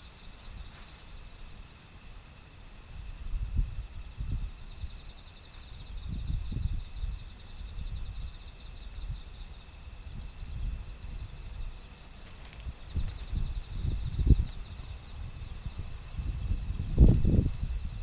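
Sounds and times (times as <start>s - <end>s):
insects trilling: 0.0s - 18.0s
wind buffeting microphone: 2.8s - 18.0s.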